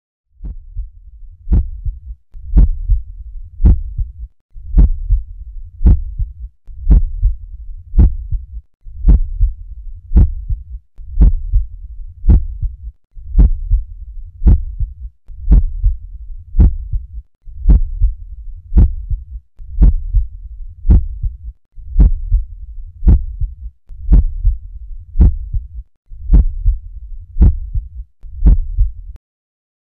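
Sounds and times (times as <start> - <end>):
heartbeat through stethoscope: 0.4 - 29.2.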